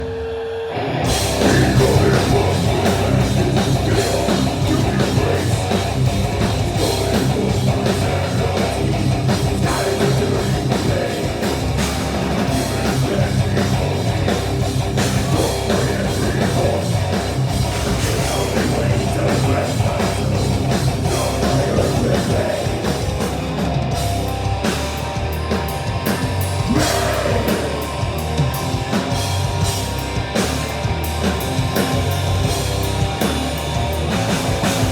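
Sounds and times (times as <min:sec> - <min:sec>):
metal band playing live: 0:00.0 - 0:34.9.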